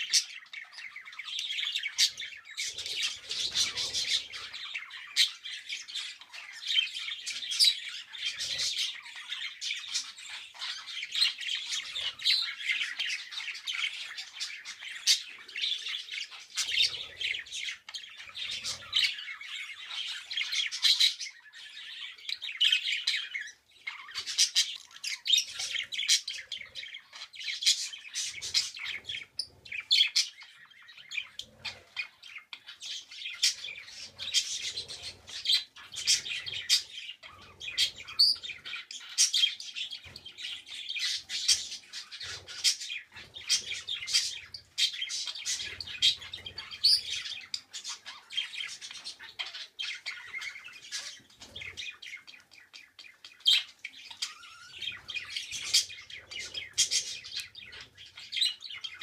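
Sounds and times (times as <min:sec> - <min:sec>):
budgerigars chattering and squawking: 0:00.0 - 0:59.0.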